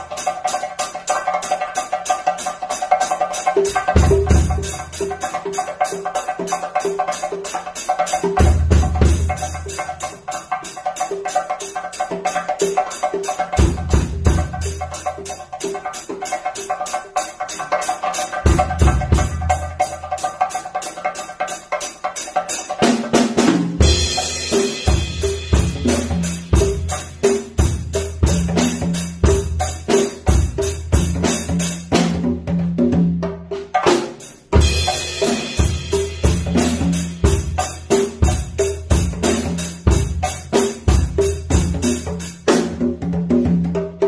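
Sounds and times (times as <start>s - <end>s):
congas played by hand: 0.0s - 44.0s.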